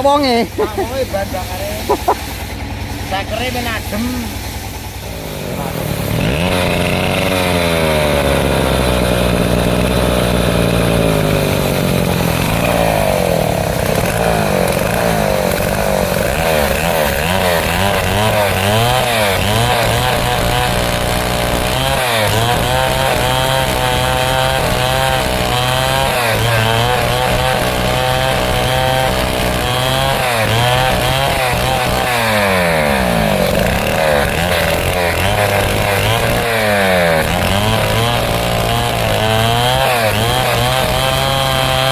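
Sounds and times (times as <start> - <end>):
chainsaw cutting through log: 0.0 - 41.9.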